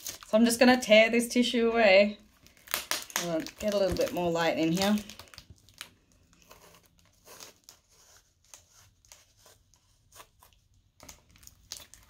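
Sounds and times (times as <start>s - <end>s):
tissue paper rustling and tearing: 0.0s - 0.4s, 2.4s - 12.0s.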